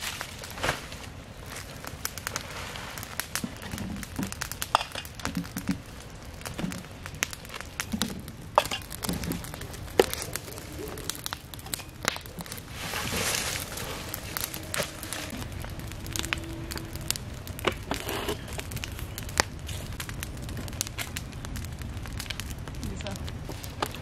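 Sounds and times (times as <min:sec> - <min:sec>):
rustling: 0:00.0 - 0:24.0
sharp crackles and clicks: 0:00.0 - 0:24.0.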